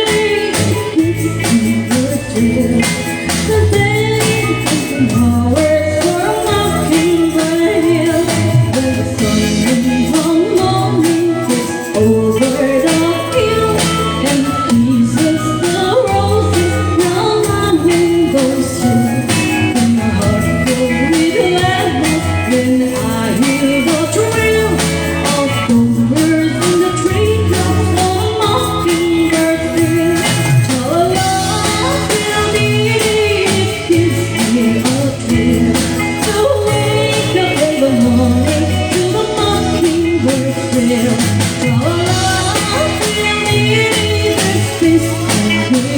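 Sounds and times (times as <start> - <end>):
live band playing a waltz: 0.0 - 45.9
person singing: 0.0 - 45.9.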